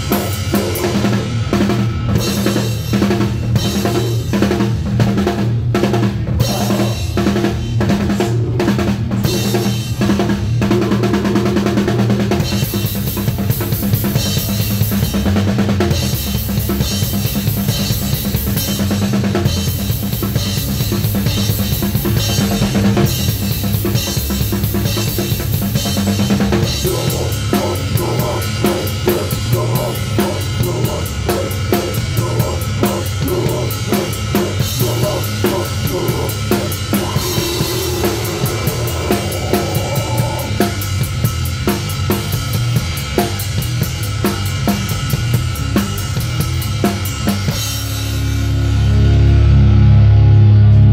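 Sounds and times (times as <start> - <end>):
drum kit playing: 0.0 - 49.6.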